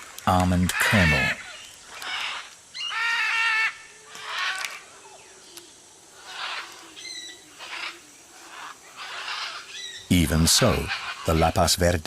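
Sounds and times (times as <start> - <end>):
macaws squawking: 0.3 - 5.0, 6.2 - 11.9.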